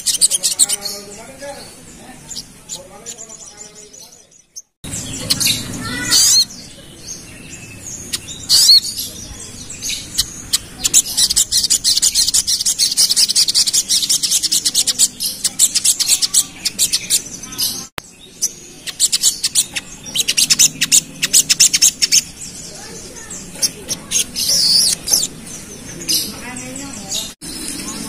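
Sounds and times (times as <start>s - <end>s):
bird singing high chirps: 0.0s - 28.0s.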